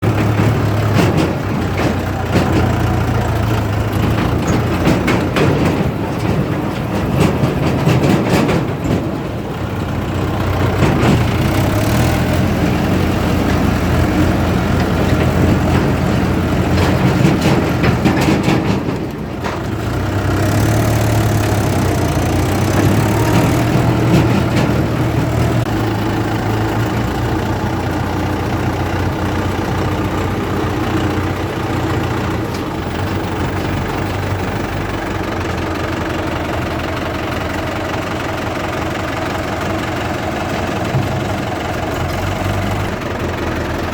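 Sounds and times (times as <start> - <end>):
diesel engine running loudly: 0.0 - 43.9.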